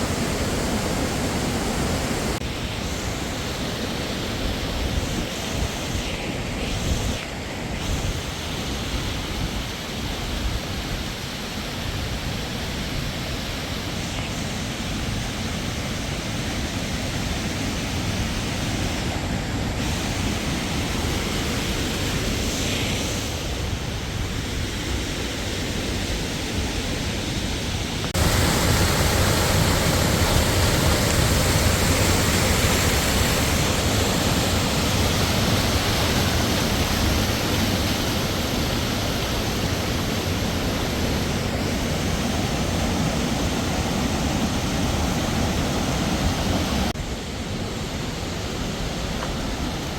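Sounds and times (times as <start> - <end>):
waterfall rushing: 0.0 - 2.4, 11.1 - 49.9.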